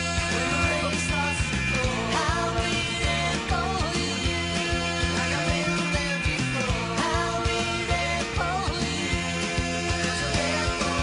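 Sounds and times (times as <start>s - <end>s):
upbeat rock song with vocals: 0.0s - 11.0s.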